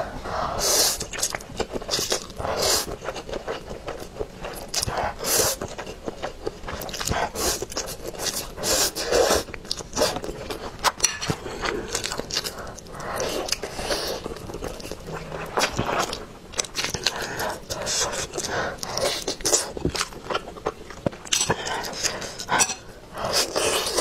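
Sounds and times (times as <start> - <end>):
wet chewing: 0.9 - 24.0.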